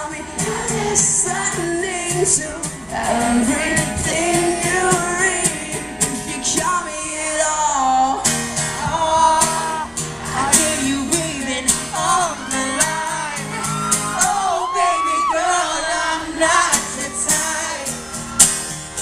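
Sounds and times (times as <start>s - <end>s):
man singing: 0.0s - 18.0s
acoustic guitar: 0.0s - 19.0s.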